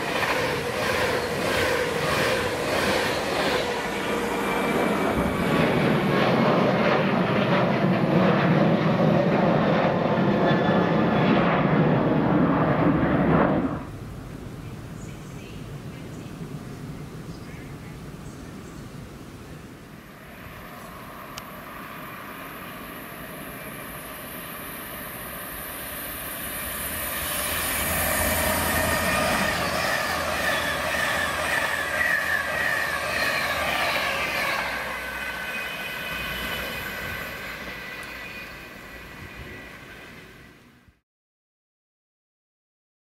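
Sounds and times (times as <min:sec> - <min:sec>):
train whine: 0:00.0 - 0:15.1, 0:20.0 - 0:41.0
passing train rumble and hiss: 0:00.0 - 0:41.0.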